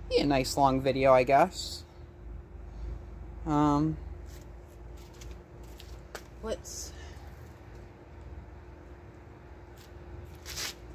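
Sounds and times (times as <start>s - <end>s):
faint steady hum: 0.0s - 10.9s.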